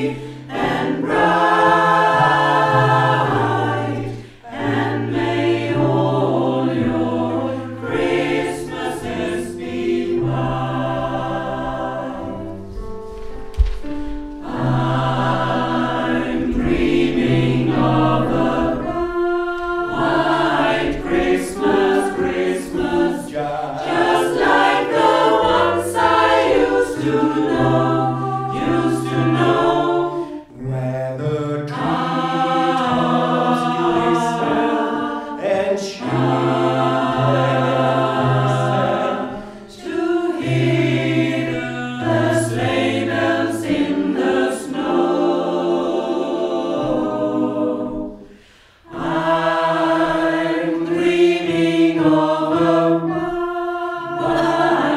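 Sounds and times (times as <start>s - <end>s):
mixed choir singing in parts: 0.0s - 13.2s, 13.9s - 54.9s.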